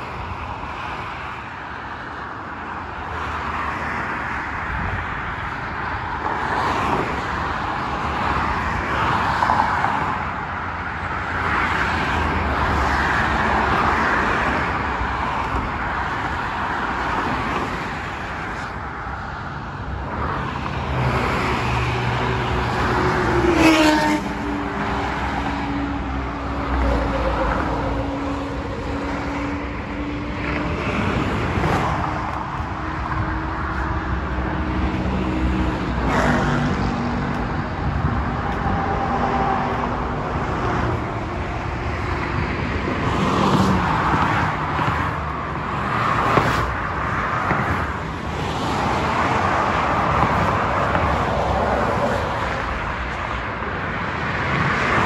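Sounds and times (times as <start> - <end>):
motorway traffic: 0.0 - 55.0.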